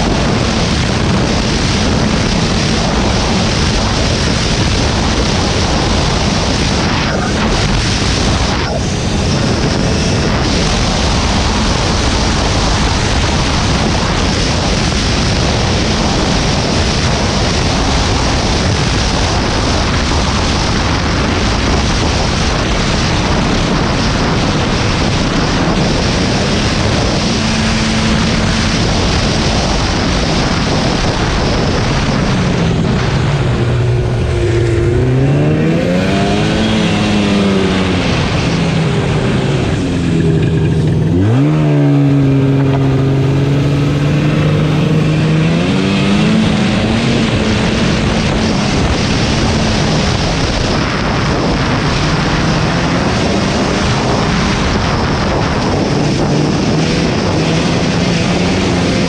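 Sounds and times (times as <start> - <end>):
loud rushing noise: 0.0 - 59.0
snowmobile engine revving: 0.0 - 59.0.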